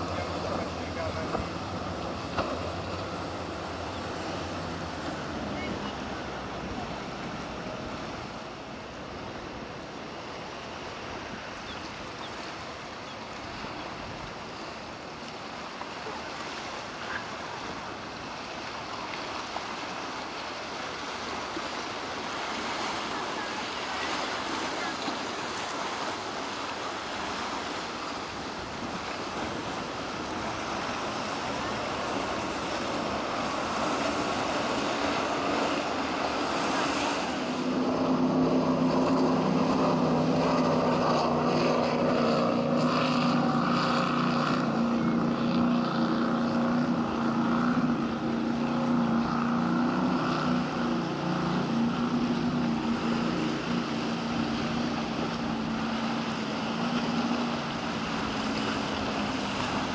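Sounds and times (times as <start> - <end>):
motorboat engines droning: 0.0 - 59.9
waves: 0.0 - 59.9
wind: 0.0 - 59.9.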